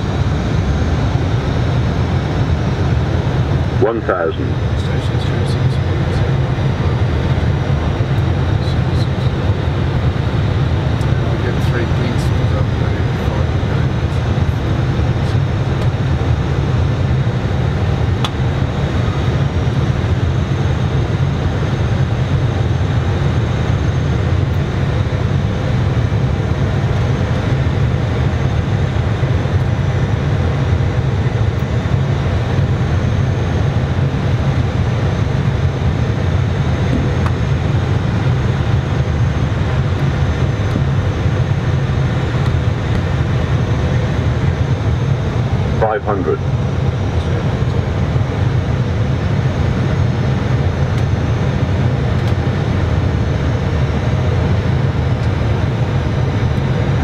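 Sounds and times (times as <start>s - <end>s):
aircraft cockpit rumble: 0.0s - 57.0s.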